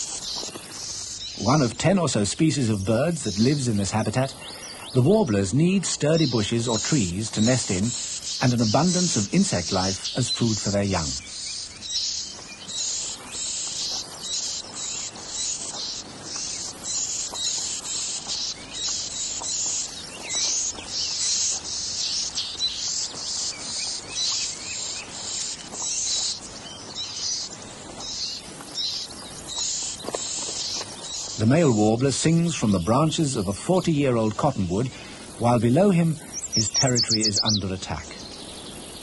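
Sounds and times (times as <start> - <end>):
nestlings begging chirps: 0.0 - 39.0.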